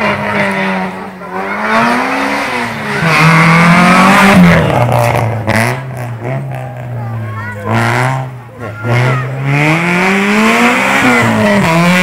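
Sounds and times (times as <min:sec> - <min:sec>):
rally car engine revving past: 0:00.0 - 0:07.0, 0:07.6 - 0:12.0.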